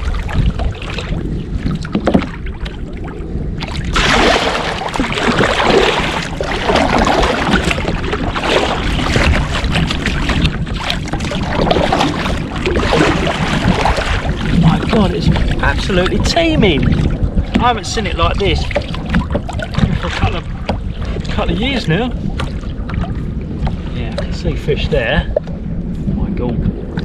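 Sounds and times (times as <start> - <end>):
kayak paddle splashing: 0.0 - 25.7
water washing along hull: 0.0 - 27.0
wind rumble on microphone: 0.0 - 27.0.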